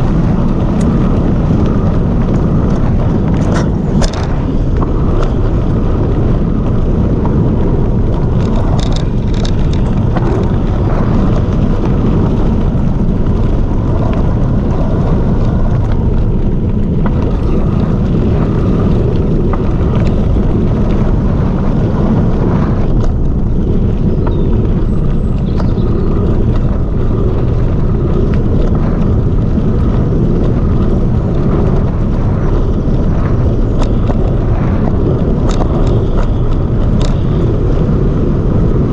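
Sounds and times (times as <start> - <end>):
bike clicks and rattles: 0.0 - 38.9
tyres rumbling on dirt: 0.0 - 38.9
wind buffeting microphone: 0.0 - 38.9.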